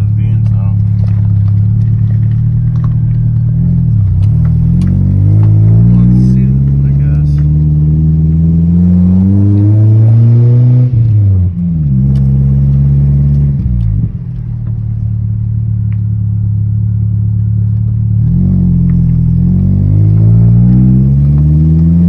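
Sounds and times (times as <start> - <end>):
truck engine revving: 0.0 - 14.1, 18.2 - 22.0.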